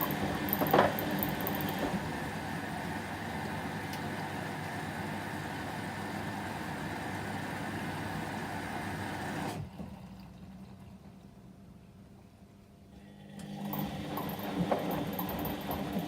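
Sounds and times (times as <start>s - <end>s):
washing machine running: 0.0s - 12.1s, 12.9s - 16.0s.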